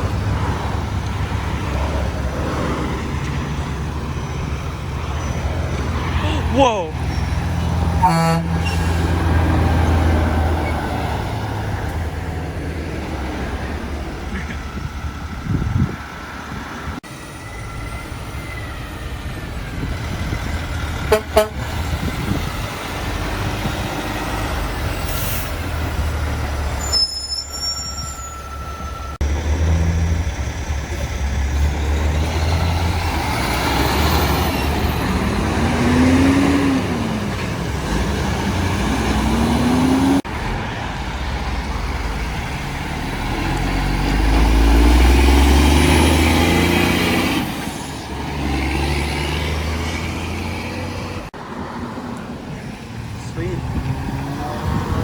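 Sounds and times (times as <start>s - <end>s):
highway traffic passing: 0.0s - 55.0s
truck engine pitch rising: 0.0s - 55.0s.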